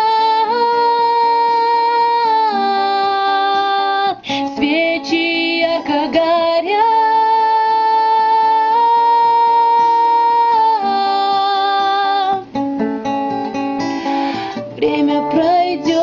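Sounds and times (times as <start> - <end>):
person singing: 0.0 - 12.5, 14.7 - 16.0
acoustic guitar: 0.0 - 16.0.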